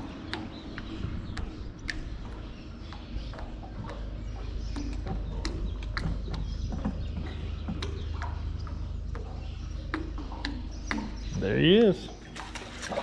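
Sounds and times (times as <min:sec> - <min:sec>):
steady low rumble: 0:00.0 - 0:11.6
water slapping against boat: 0:00.0 - 0:13.0.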